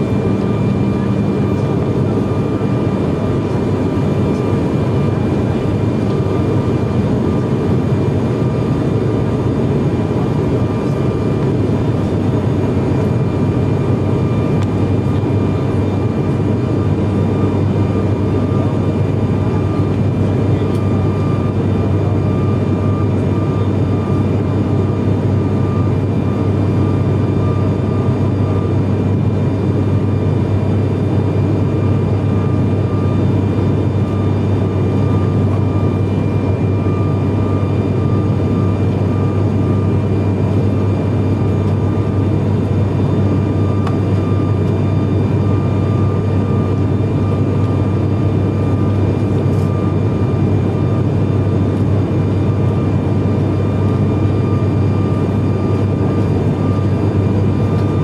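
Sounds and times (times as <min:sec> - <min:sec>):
turboprop cabin drone: 0:00.0 - 0:58.0.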